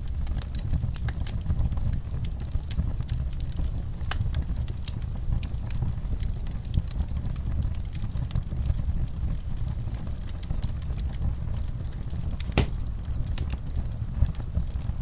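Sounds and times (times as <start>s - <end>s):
fire crackling: 0.0s - 15.0s
fire popping: 0.0s - 15.0s
wood fire rumbling: 0.0s - 15.0s.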